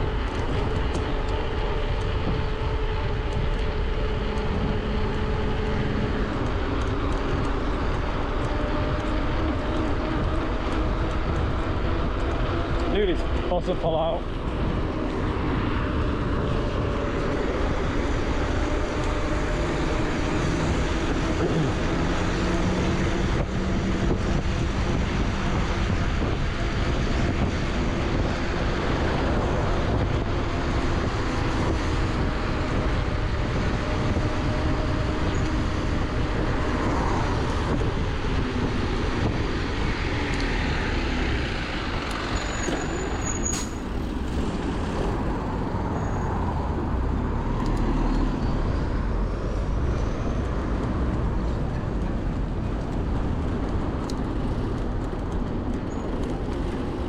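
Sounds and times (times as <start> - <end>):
engine drone: 0.0 - 57.0
road traffic noise: 0.0 - 57.0
wind rumble on microphone: 0.0 - 57.0.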